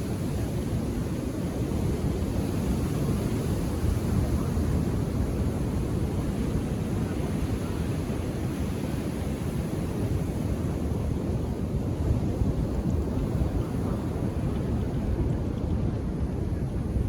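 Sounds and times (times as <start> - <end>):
calm waves washing on beach: 0.0 - 17.0.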